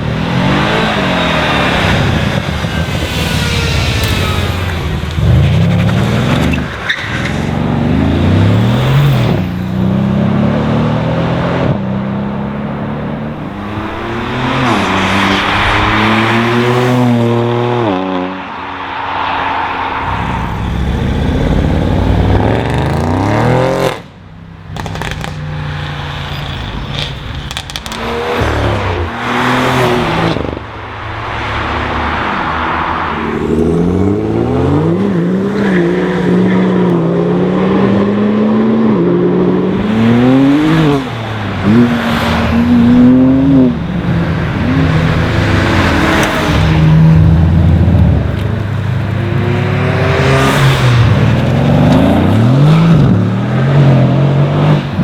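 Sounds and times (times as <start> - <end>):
cars accelerating past: 0.0 - 55.0.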